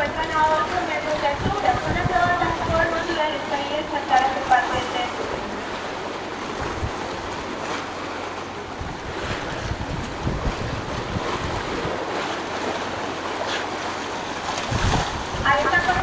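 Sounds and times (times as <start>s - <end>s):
choppy sea water rushing: 0.0s - 16.0s
wind buffeting microphone: 0.0s - 16.0s.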